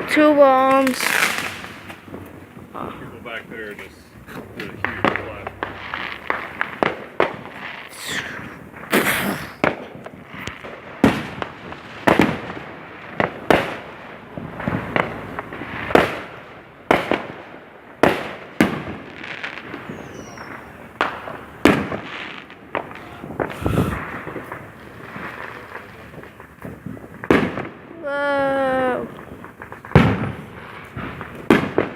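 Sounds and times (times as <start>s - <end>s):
fireworks bangs and booms: 0.0s - 31.9s.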